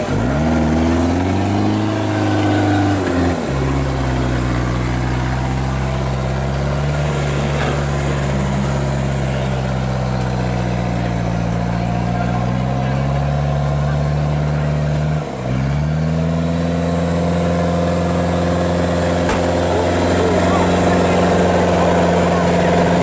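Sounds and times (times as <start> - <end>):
off-road engine revving: 0.0 - 23.0.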